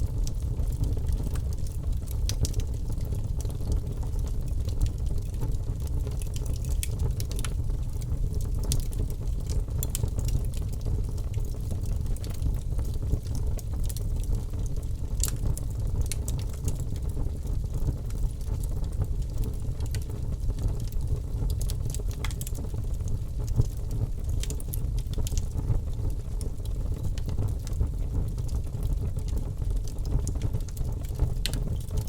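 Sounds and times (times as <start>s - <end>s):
low rumble of fire: 0.0s - 32.0s
logs crackling and popping: 0.1s - 32.0s.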